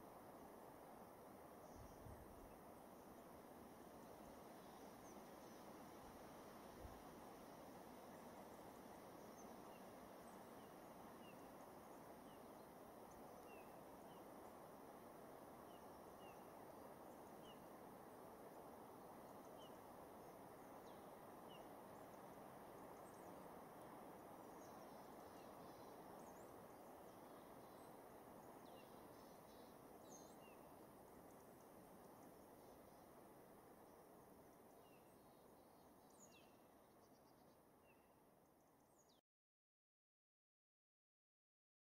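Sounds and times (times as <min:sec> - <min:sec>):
faint steady hiss: 0:00.0 - 0:39.2.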